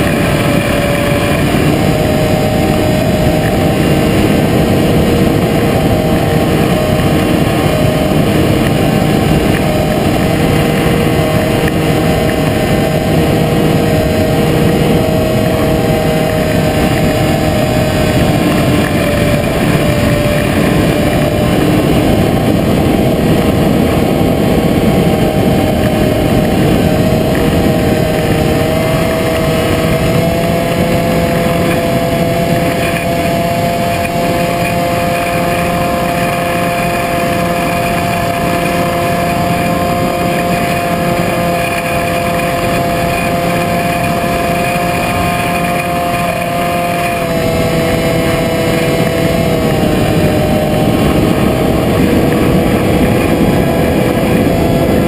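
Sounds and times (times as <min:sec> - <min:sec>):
model aircraft motor drone: 0:00.0 - 0:55.0
wind rush: 0:00.0 - 0:55.0.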